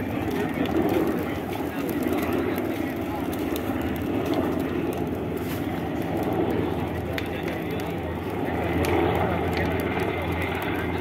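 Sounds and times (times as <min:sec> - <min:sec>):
distant helicopter drone: 0:00.0 - 0:11.0.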